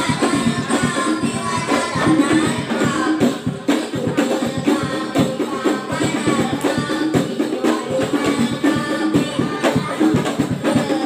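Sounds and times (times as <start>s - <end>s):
boy singing into microphone: 0.0s - 11.0s
frame drums beating: 0.0s - 11.0s.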